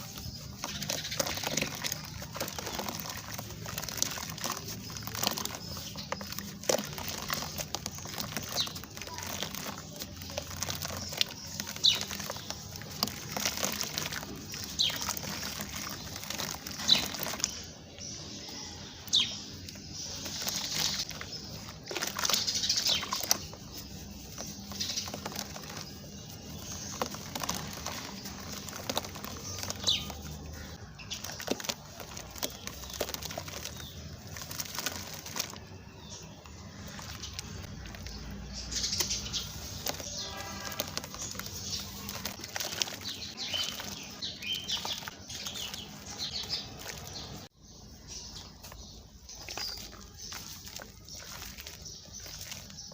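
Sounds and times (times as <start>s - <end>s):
cement chunks crunching: 0.0s - 18.2s, 18.8s - 52.9s.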